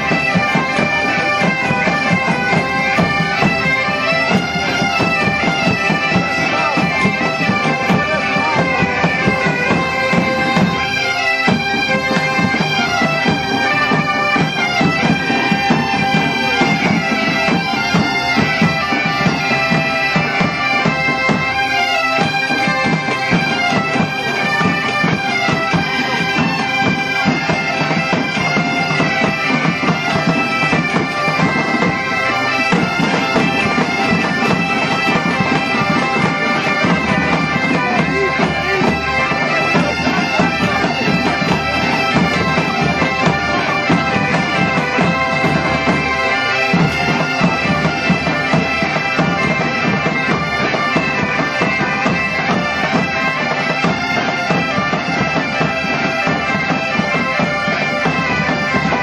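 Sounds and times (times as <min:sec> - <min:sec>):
bagpipe drones: 0:00.0 - 0:59.0
bagpipes playing a tune: 0:00.0 - 0:59.0
drums beating: 0:00.0 - 0:59.0.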